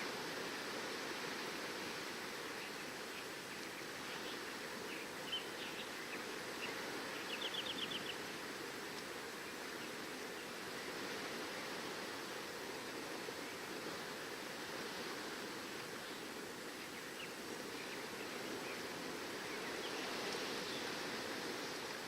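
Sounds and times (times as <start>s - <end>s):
surf rushing on shore: 0.0s - 22.0s.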